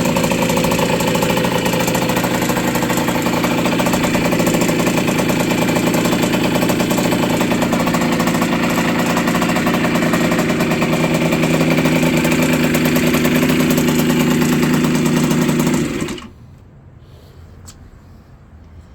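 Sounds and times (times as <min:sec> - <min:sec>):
two-stroke minibike engine running: 0:00.0 - 0:16.3.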